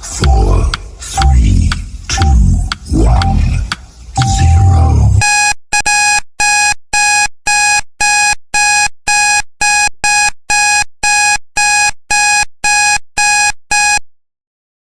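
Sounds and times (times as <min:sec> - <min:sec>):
timer alarm beeping: 0:00.2 - 0:00.5, 0:01.2 - 0:14.0.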